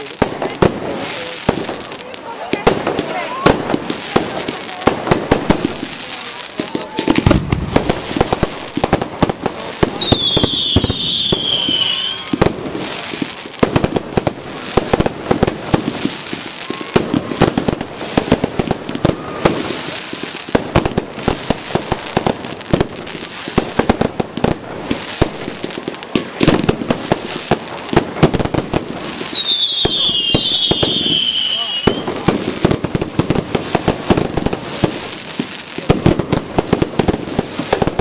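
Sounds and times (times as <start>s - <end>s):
fireworks cracking and banging: 0.0s - 38.0s.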